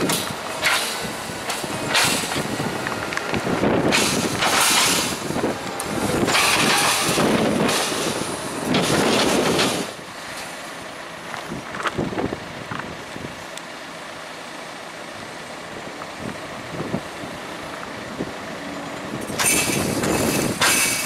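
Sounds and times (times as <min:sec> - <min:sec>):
wheel loader engine under load: 0:00.0 - 0:21.0.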